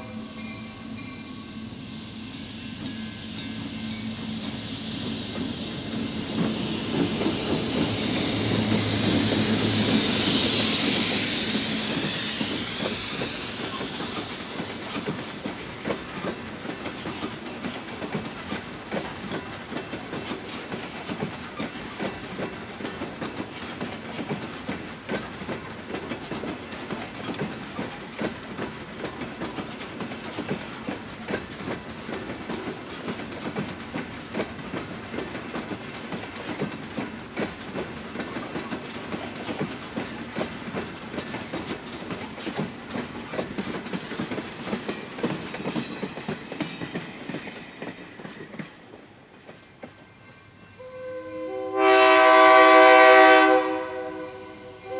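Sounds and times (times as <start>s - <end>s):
diesel locomotive passing: 0.0s - 54.9s
train wheels clacking on rail joints: 2.8s - 50.1s.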